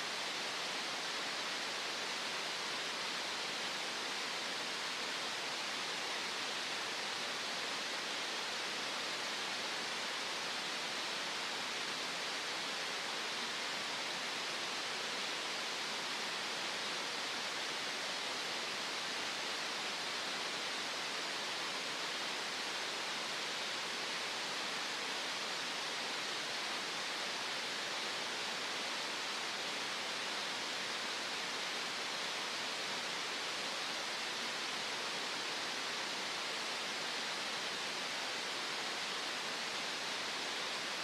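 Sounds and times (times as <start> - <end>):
steady green noise hiss: 0.0 - 41.0.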